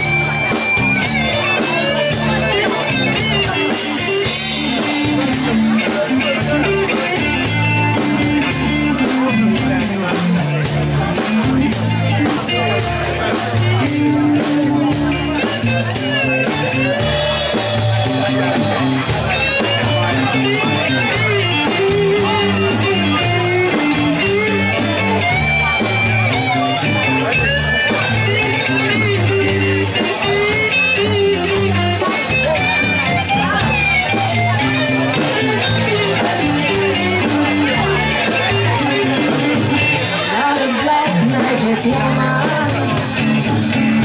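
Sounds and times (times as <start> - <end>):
acoustic guitar: 0.0 - 44.0
bass guitar: 0.0 - 44.0
drum kit keeping a steady beat: 0.0 - 44.0
electric guitar: 0.0 - 44.0.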